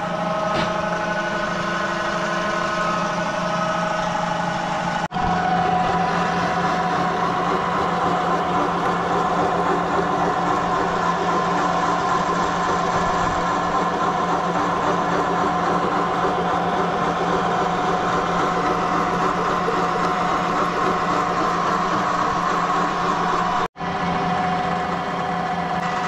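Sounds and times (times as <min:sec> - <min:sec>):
milling machine cutting steel: 0:00.0 - 0:26.0.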